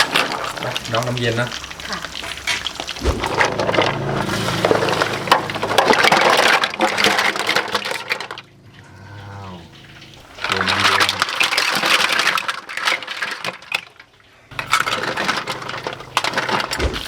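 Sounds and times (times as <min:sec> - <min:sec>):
shellfish clattering in container: 0:00.0 - 0:08.5, 0:10.3 - 0:17.0.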